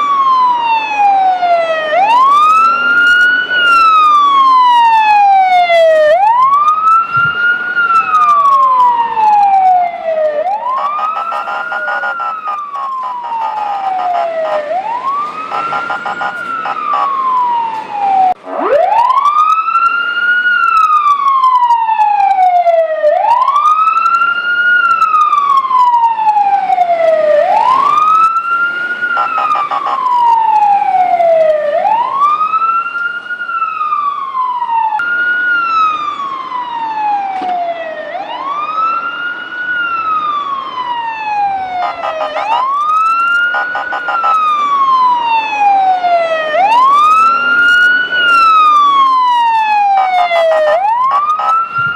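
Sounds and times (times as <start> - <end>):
fire engine siren wailing: 0.0 - 51.9.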